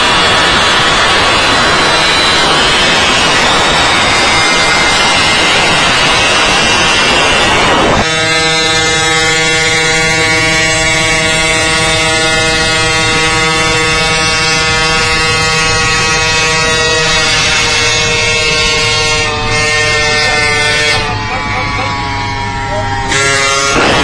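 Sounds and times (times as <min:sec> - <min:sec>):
steady engine drone: 0:00.0 - 0:24.0
wind and road rush: 0:00.0 - 0:24.0.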